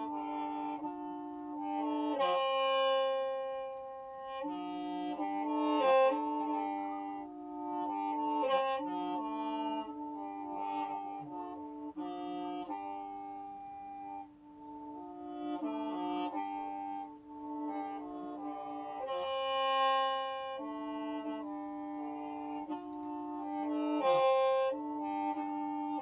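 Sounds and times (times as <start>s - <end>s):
bamboo mouth organ playing: 0.0s - 26.0s.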